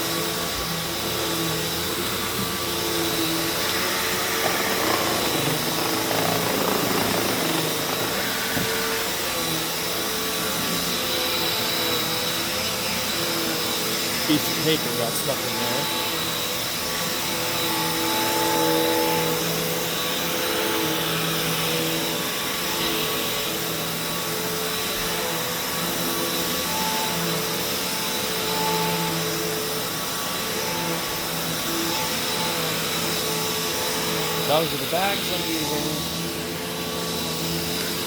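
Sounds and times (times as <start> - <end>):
vacuum cleaner running on carpet: 0.0 - 38.0.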